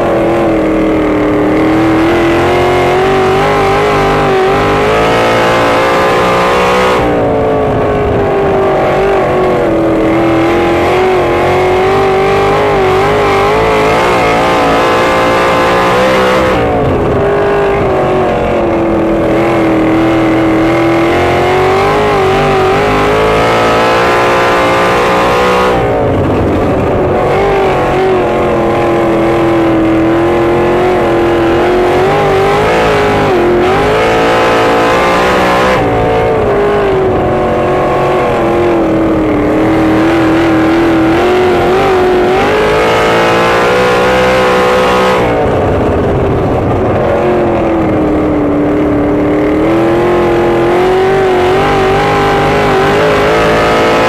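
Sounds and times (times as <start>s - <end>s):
race car engine revving hard: 0.0s - 54.0s.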